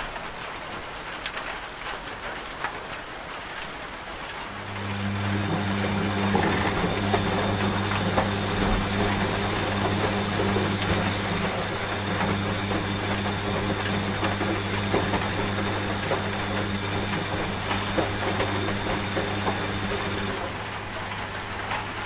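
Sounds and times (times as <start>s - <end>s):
rain hissing: 3.8s - 22.0s
washing machine motor hum: 4.3s - 22.0s.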